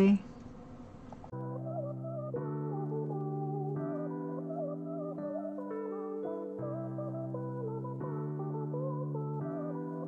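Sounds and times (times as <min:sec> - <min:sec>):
light melody: 0:01.3 - 0:10.0
soft synthesizer chords: 0:01.3 - 0:10.0.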